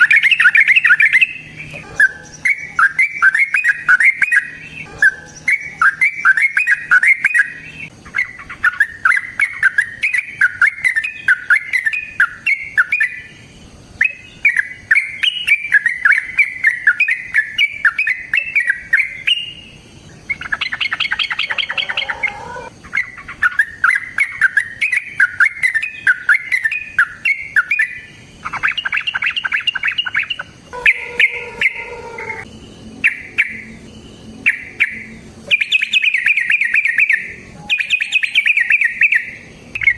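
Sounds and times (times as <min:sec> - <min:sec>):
caged bird chattering: 0:00.0 - 0:39.9
harsh buzzy bird call: 0:00.0 - 0:39.9.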